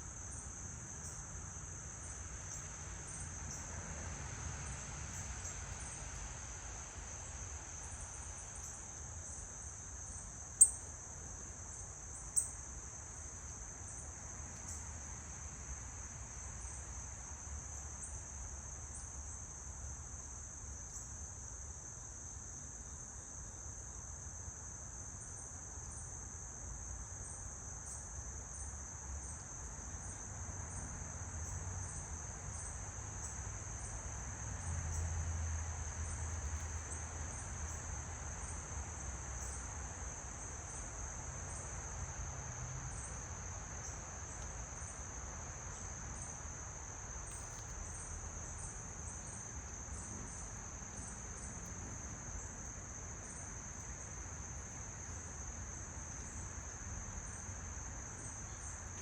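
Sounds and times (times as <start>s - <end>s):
insects trilling: 7.2s - 15.5s, 16.6s - 59.0s.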